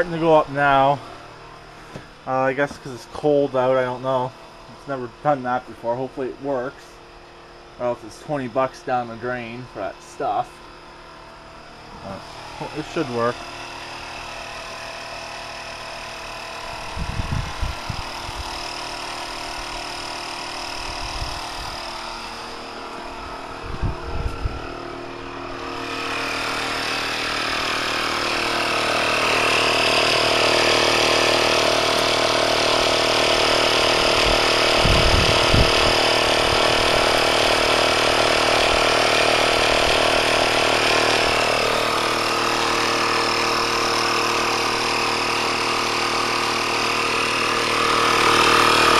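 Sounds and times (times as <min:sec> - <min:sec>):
air pump running: 0:00.0 - 0:48.9.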